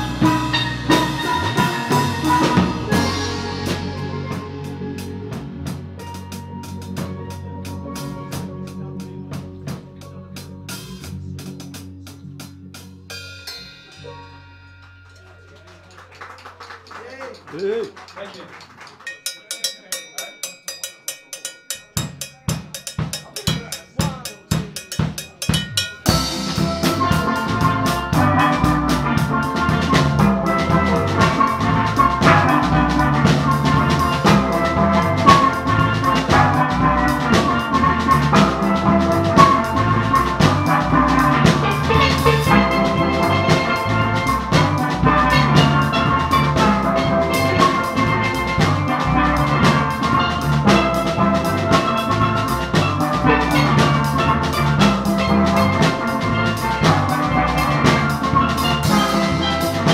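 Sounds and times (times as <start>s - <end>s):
drum kit tapping beat: 0.0s - 59.9s
steel drum band playing: 0.0s - 59.9s.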